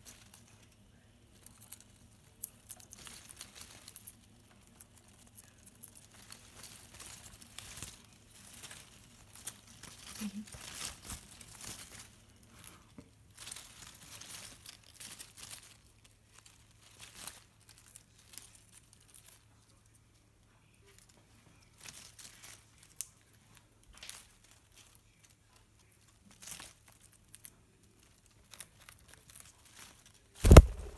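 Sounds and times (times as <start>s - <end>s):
leaves rustling and crinkling: 0.0s - 20.2s, 20.8s - 30.9s.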